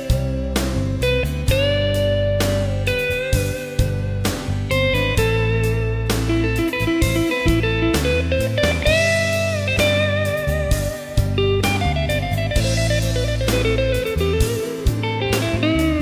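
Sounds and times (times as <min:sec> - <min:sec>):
bass and drums: 0:00.0 - 0:16.0
bluesy electric guitar: 0:00.0 - 0:16.0.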